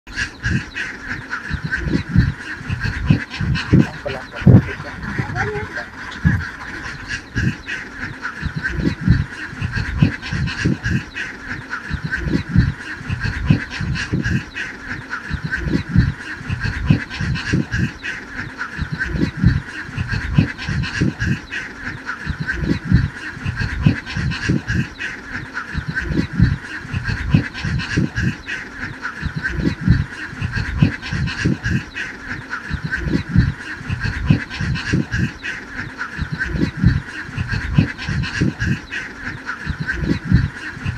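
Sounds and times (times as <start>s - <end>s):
ducks quacking: 0.1s - 40.9s.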